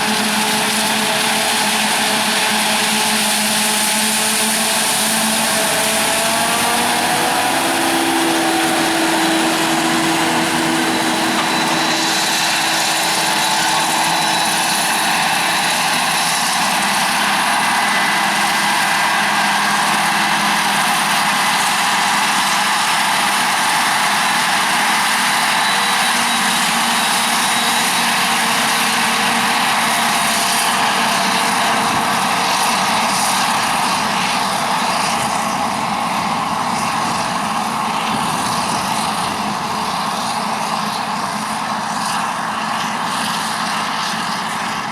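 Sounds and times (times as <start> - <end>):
harvesting machinery running: 0.0 - 44.9
faint steady whines: 4.8 - 44.9.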